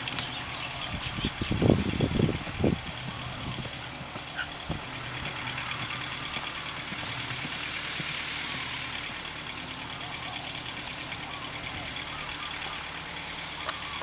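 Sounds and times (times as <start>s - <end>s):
horse galloping on dry dirt: 0.0s - 11.4s.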